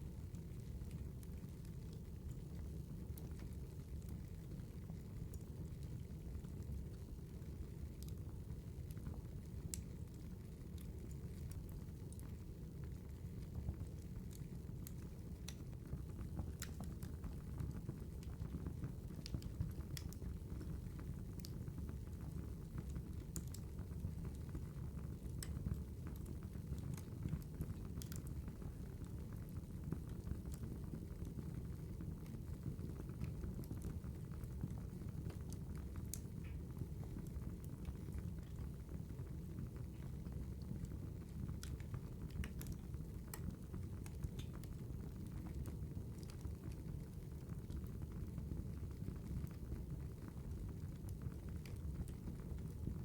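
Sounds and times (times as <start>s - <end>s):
wood fire crackling: 0.2s - 53.0s.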